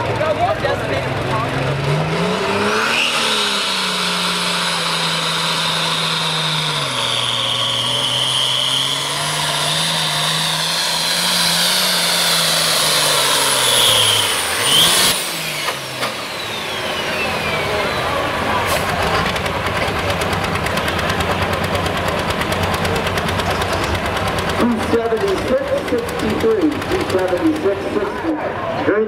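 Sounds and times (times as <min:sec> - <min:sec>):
diesel tractor engine at full throttle: 0:00.0 - 0:29.0.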